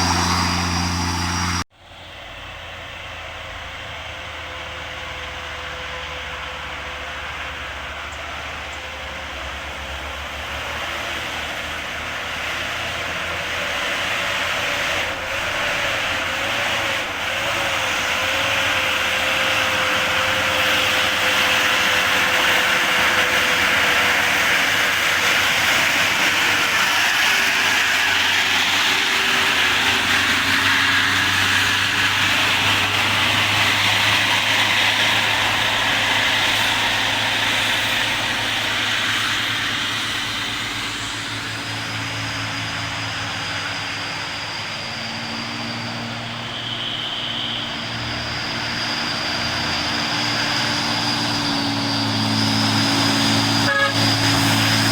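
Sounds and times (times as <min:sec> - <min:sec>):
trucks driving past: 0:00.0 - 0:54.9.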